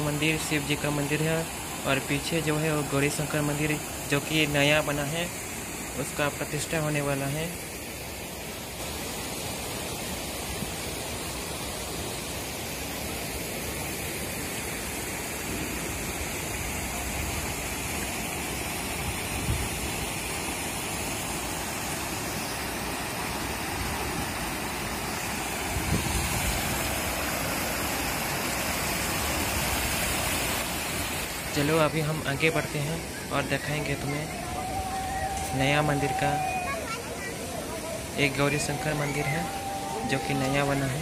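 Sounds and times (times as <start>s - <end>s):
water cascading over rocks: 0.0s - 41.0s.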